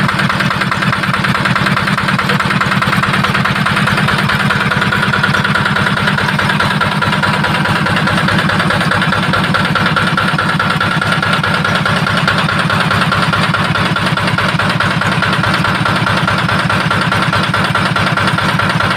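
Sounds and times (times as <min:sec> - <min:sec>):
diesel engine running steadily: 0:00.0 - 0:18.9.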